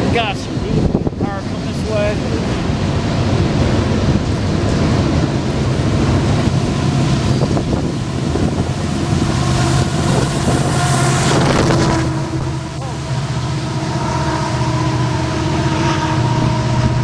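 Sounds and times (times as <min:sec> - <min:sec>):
diesel locomotive engine hum: 0:00.0 - 0:17.0
freight train cars rolling on rails: 0:00.0 - 0:17.0.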